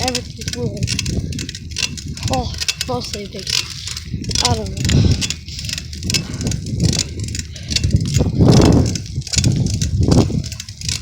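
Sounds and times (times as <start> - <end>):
bicycle rattles: 0.0 - 11.0
wind buffeting microphone: 0.0 - 11.0.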